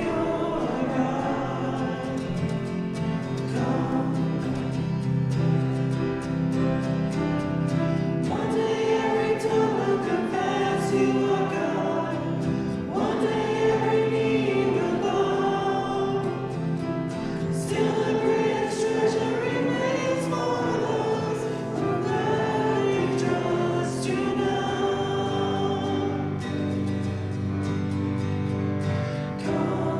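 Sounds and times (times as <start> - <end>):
accompanying instruments: 0.0 - 29.9
choir singing a hymn: 0.0 - 29.9.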